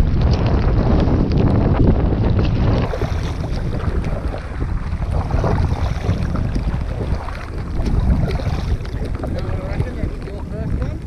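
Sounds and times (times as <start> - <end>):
choppy water: 0.0 - 11.0
kayak paddle splashing: 0.0 - 11.0
wind buffeting microphone: 0.0 - 11.0.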